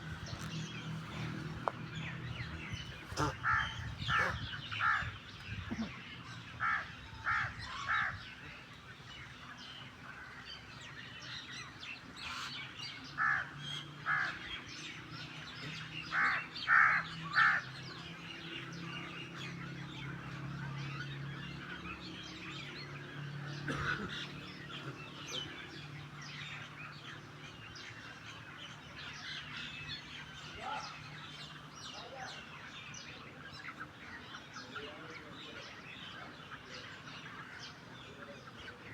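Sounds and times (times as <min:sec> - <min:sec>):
birds chattering: 0:00.0 - 0:38.9
loud bird calls: 0:00.0 - 0:38.9.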